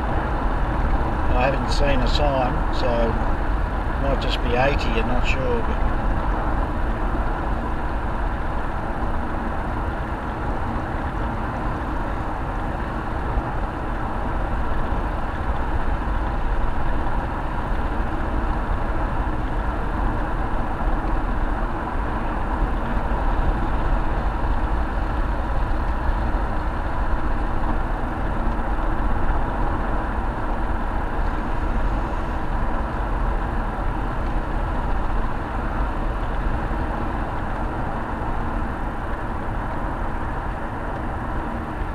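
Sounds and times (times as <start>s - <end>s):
car interior road noise: 0.0s - 41.9s.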